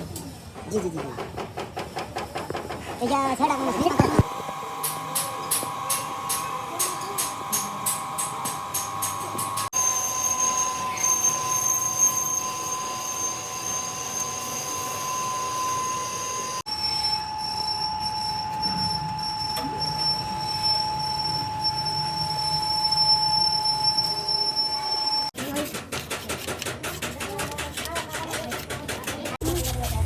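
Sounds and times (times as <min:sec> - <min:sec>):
workshop machine whining: 0:00.4 - 0:30.0.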